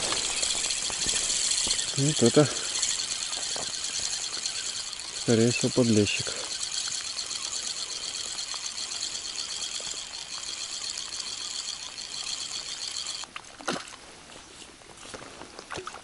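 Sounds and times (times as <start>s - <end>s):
fishing reel ticking whir: 0.0s - 13.3s.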